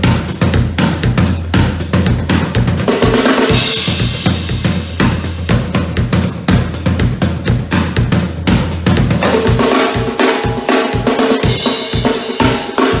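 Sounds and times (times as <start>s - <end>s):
drum kit playing a groove: 0.0s - 13.0s.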